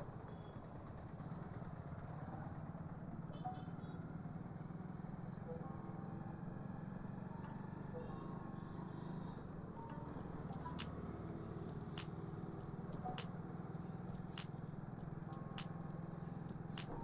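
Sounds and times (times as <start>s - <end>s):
light street traffic: 0.0s - 17.0s
motorcycle engine running: 0.0s - 17.0s.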